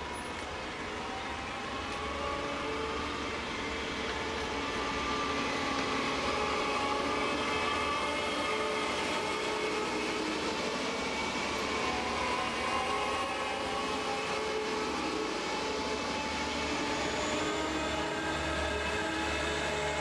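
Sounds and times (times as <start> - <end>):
heavy diesel vehicles driving past: 0.0 - 20.0.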